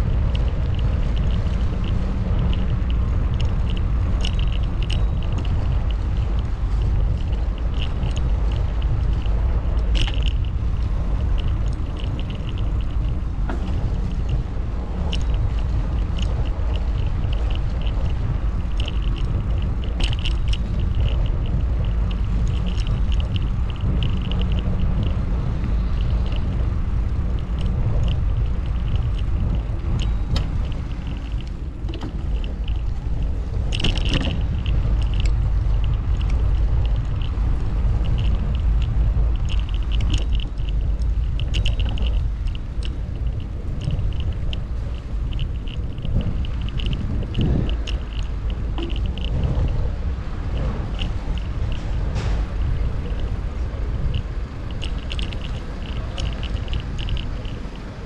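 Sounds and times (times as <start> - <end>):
bicycle ticks and rattles: 0.0 - 58.0
wind and road noise: 0.0 - 58.0.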